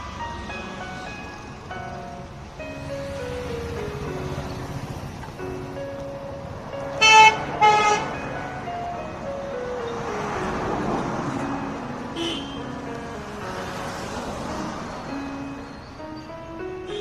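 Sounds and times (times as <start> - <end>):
background music melody: 0.0 - 17.0
cars passing: 0.0 - 17.0.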